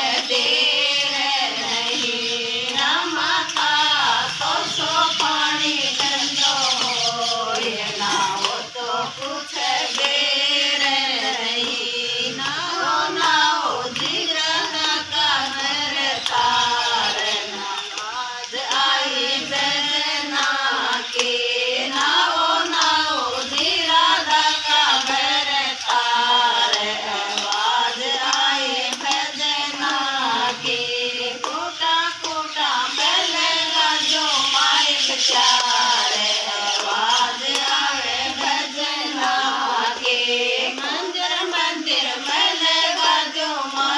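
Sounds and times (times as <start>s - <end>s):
hand-clapping: 0.0s - 43.9s
women singing devotional song: 0.0s - 43.9s.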